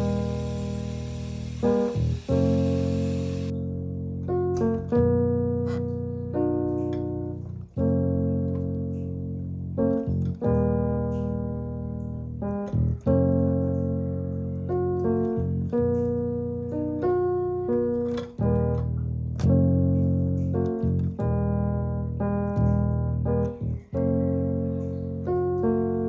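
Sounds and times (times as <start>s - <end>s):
slow piano chords: 0.0s - 26.0s.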